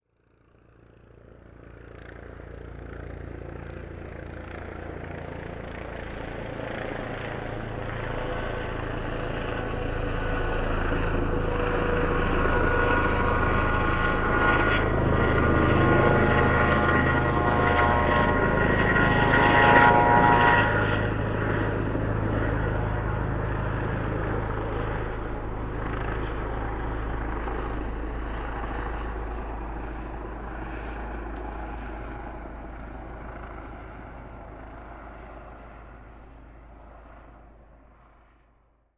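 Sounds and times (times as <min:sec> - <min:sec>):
helicopter flying past: 0:00.2 - 0:38.8.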